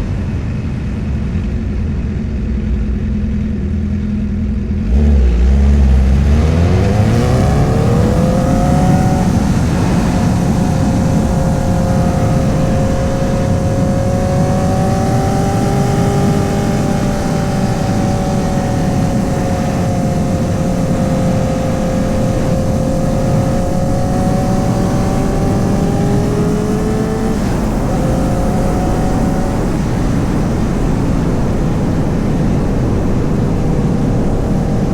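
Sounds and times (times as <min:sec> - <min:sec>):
wind and road noise: 0:00.0 - 0:34.9
motorcycle engine accelerating: 0:00.5 - 0:34.9.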